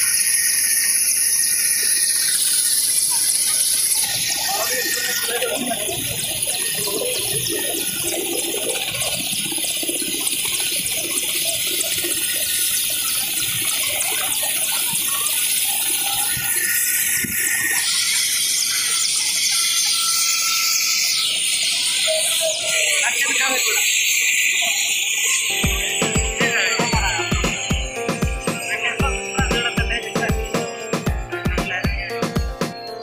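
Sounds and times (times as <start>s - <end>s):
helicopter engine and rotor hiss: 0.0s - 33.0s
thin high whine: 0.0s - 33.0s.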